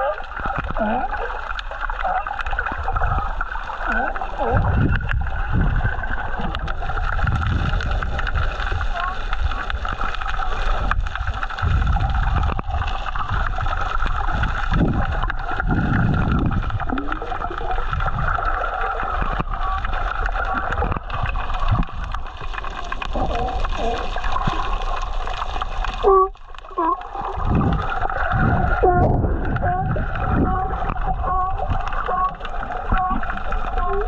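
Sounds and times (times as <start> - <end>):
muffled underwater gurgling: 0.0 - 34.0.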